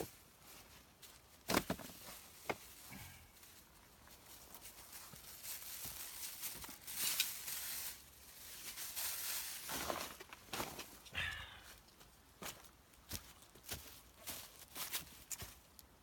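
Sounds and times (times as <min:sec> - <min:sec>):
rustling and crinkling: 0:00.0 - 0:11.1, 0:11.7 - 0:16.0.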